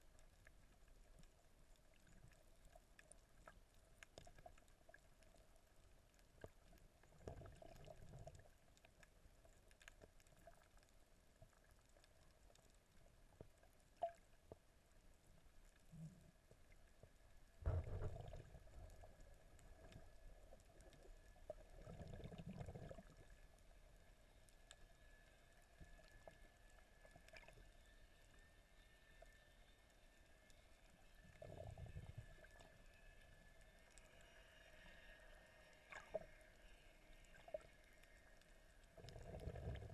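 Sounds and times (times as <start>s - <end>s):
muffled underwater sound: 0.0s - 39.9s.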